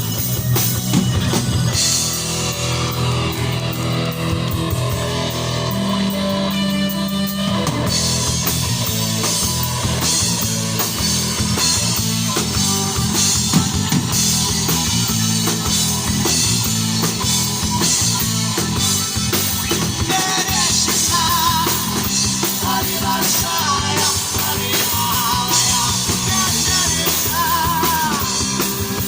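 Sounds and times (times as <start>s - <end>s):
drums and cymbals beat: 0.0s - 29.0s
electric guitar chords: 0.0s - 29.0s.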